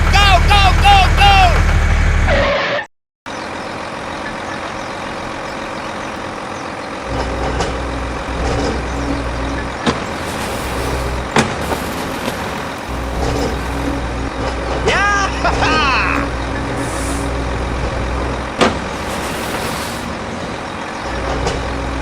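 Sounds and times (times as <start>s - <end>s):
truck engine running: 3.3s - 22.0s.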